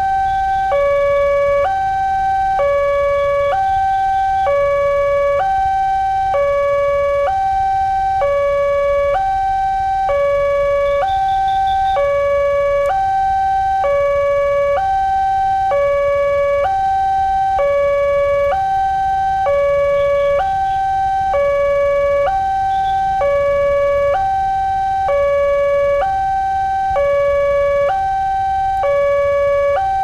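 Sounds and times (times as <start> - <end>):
two-tone electronic warning alarm: 0.0 - 30.0.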